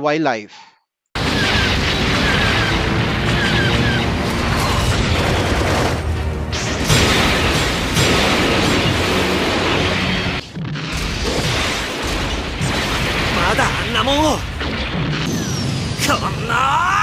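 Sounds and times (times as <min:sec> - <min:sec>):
battle soundtrack music: 0:01.2 - 0:16.1
booms: 0:01.2 - 0:16.5.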